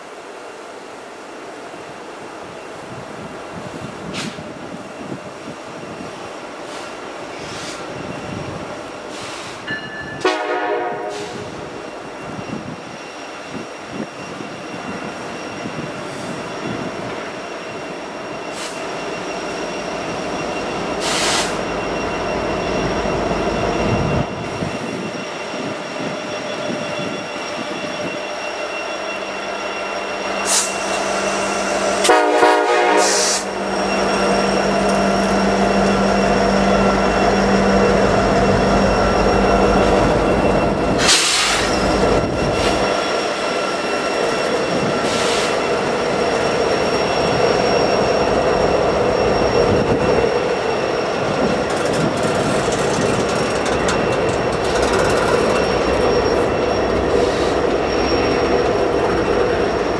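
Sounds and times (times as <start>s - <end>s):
wheels rumbling on rail: 0.0s - 59.9s
loud train rattle: 1.4s - 59.9s
high wheel squeal: 2.5s - 10.3s, 11.0s - 59.9s
train clank: 9.1s - 17.8s, 18.4s - 59.9s.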